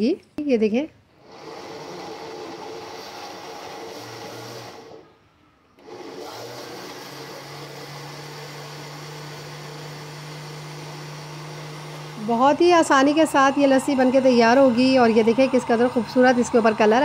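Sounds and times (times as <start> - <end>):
electric blender running: 1.2 - 5.1, 5.8 - 17.0.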